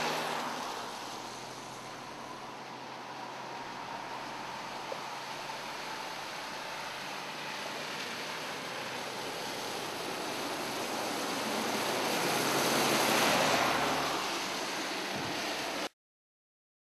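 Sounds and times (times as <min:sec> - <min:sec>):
floodwater sloshing around cars: 0:00.0 - 0:15.9.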